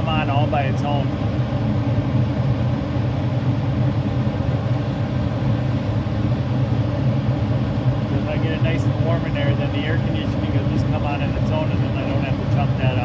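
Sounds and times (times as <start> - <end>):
rooftop hvac unit rumbling: 0.0 - 13.0.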